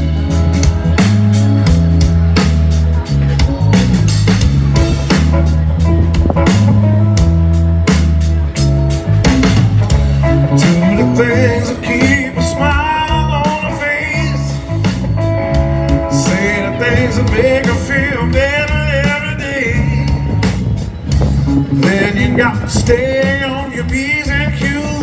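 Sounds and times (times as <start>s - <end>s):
blues-rock band playing: 0.0s - 25.0s
stepping bass line: 0.0s - 25.0s
wavering lead guitar melody: 0.0s - 25.0s.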